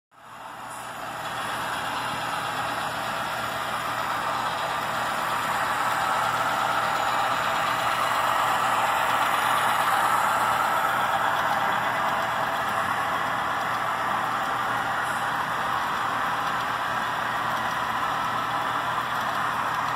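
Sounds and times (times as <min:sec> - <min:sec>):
model train rolling: 0:00.2 - 0:19.9.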